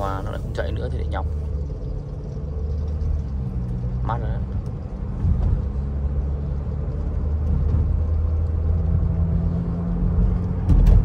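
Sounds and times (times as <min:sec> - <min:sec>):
engine and road drone in car: 0:00.0 - 0:11.0.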